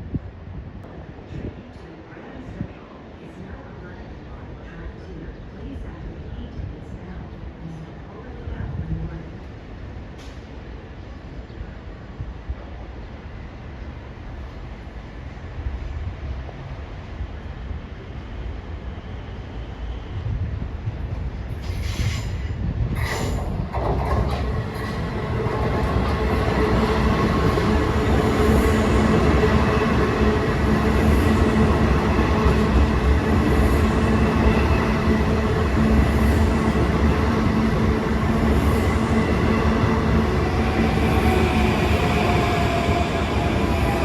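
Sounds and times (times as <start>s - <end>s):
train rumbling with whine: 0.0s - 44.0s.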